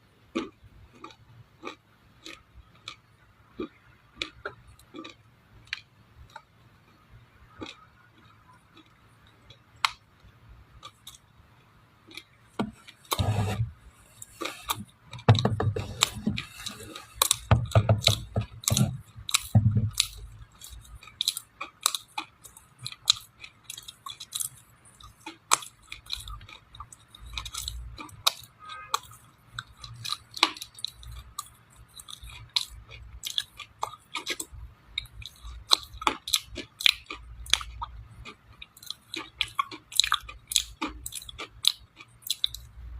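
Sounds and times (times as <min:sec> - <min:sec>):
person chewing dry clay: 0:00.3 - 0:42.8.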